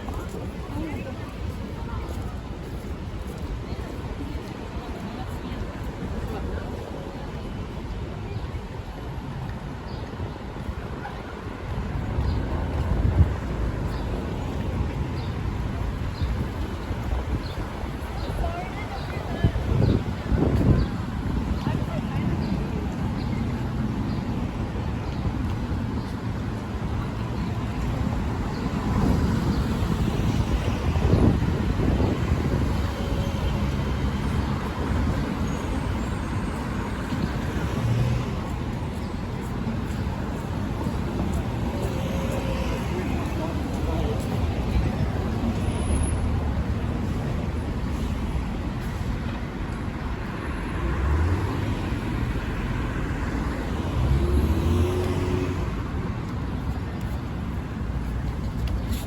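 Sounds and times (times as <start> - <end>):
cars and buses passing: 0.0 - 59.0
road traffic rumble: 0.0 - 59.0.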